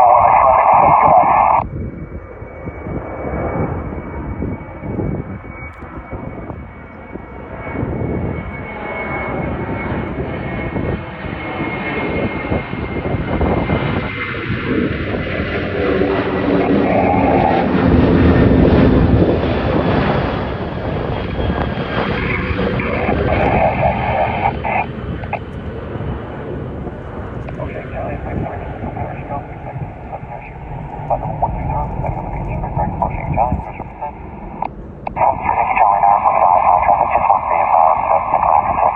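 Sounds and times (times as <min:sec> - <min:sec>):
high engine whine: 0:00.0 - 0:38.9
jet engines roaring at takeoff: 0:00.0 - 0:38.9.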